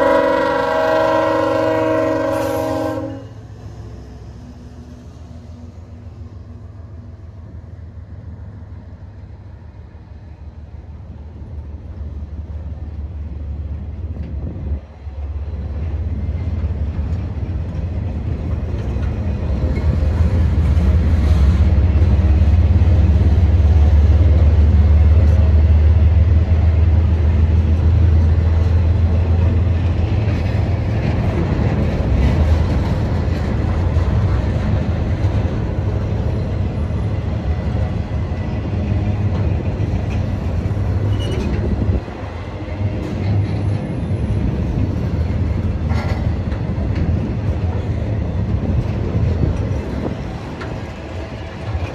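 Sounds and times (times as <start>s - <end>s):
diesel locomotive rumbling past: 0.0s - 51.9s.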